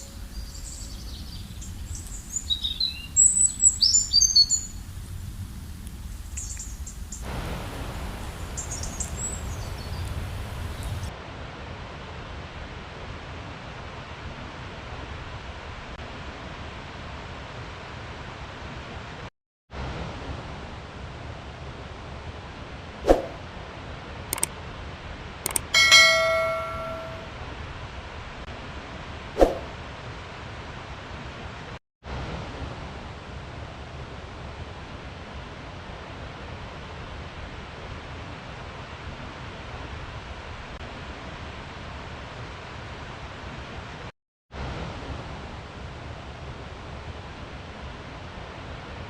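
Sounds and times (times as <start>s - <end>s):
rushing outdoor noise: 0.0s - 49.0s.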